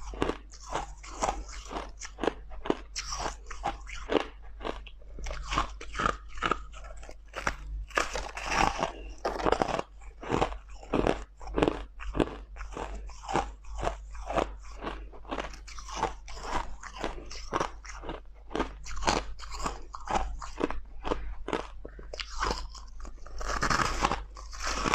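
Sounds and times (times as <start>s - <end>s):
crunching ice: 0.0s - 24.9s.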